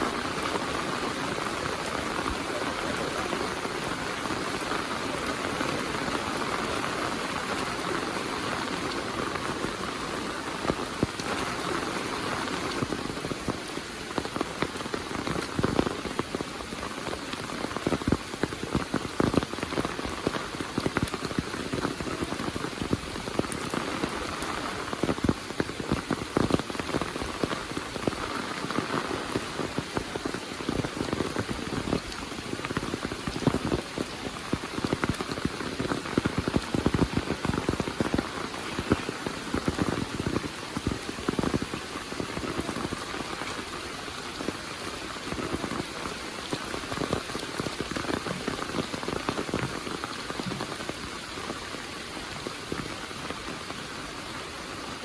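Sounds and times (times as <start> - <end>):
heavy rain hissing: 0.0 - 55.0
raindrops splatting on surfaces: 0.0 - 55.0.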